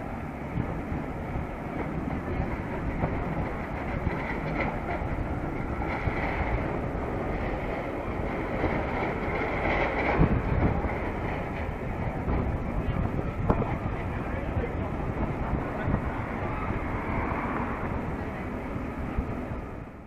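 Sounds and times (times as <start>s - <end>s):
wind rumbling: 0.0s - 20.0s.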